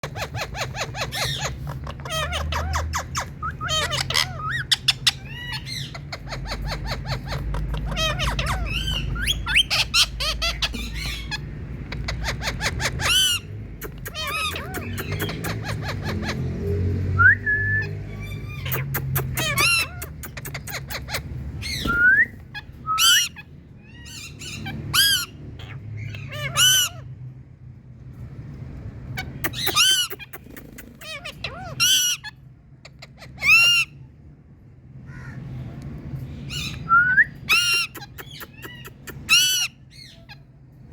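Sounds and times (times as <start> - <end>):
shrill parakeet shrieks: 0.0 - 16.4, 18.1 - 27.1, 29.2 - 34.1, 37.5 - 40.5
parakeets chirping: 0.0 - 17.2, 17.8 - 40.9.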